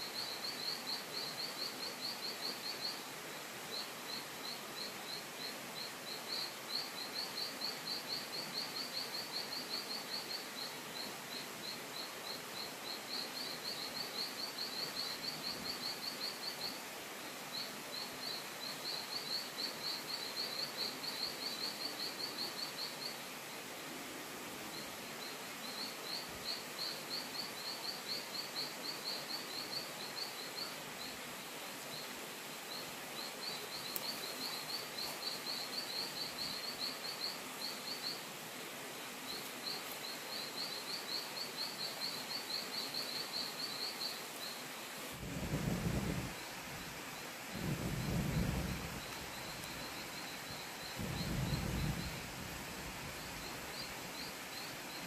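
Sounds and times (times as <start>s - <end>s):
steady forest hiss: 0.0s - 55.0s.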